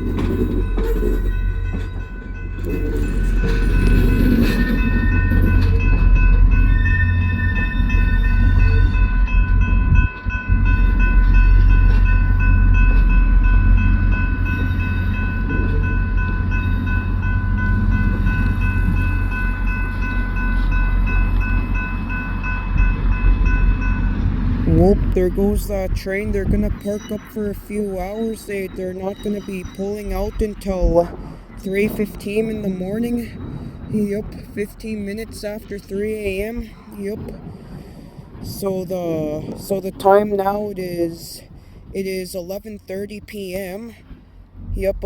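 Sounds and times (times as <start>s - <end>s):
steady high-pitched tones: 0.0s - 37.3s
diesel locomotive rumble: 0.0s - 45.0s.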